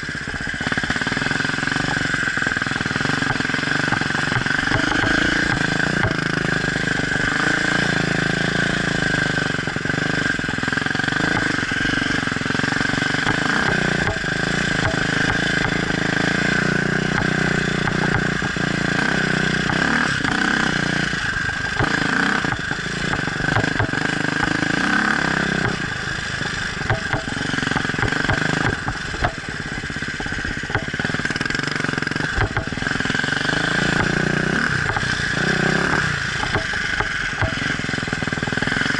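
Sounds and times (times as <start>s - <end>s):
knocks and rattles: 0.0s - 18.8s, 19.6s - 38.9s
dirt bike engine: 0.0s - 38.9s.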